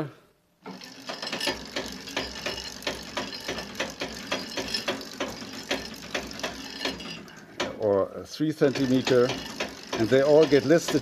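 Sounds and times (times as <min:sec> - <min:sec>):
chain rattling over sprocket: 0:00.7 - 0:07.8, 0:08.6 - 0:11.0.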